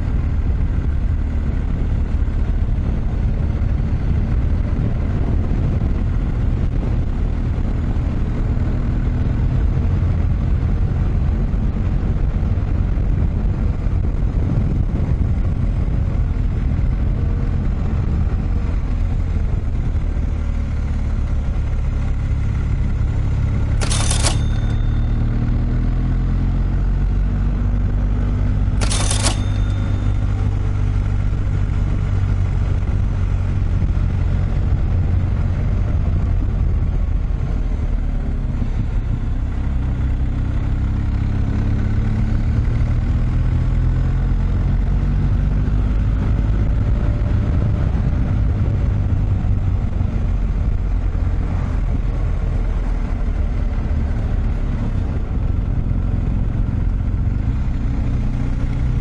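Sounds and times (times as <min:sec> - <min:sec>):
tyre and road noise: 0:00.0 - 0:59.0
vehicle engine running: 0:00.0 - 0:59.0.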